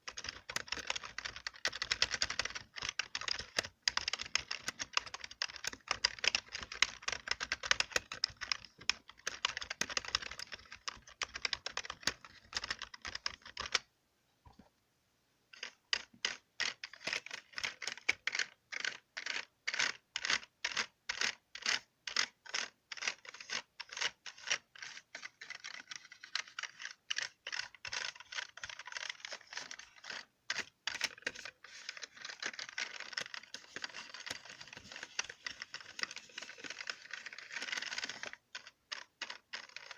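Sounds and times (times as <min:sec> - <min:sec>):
keyboard typing: 0:00.0 - 0:13.9, 0:15.5 - 0:39.9.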